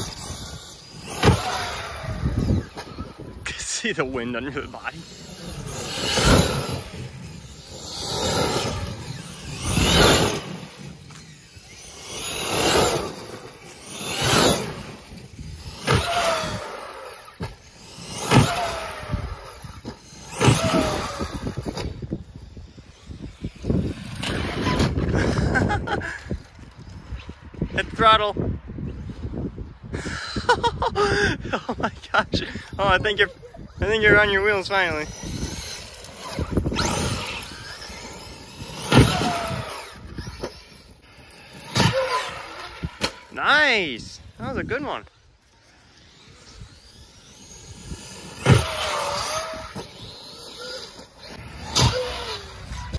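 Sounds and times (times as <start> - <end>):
rc truck motor throttle bursts: 0.0 - 27.0, 32.4 - 52.9
falling drivetrain whine: 0.0 - 27.6, 32.4 - 43.3, 44.2 - 52.9.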